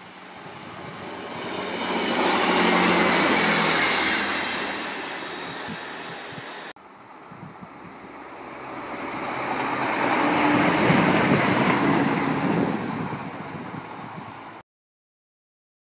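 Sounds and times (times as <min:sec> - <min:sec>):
diesel train passing by: 0:00.0 - 0:14.6.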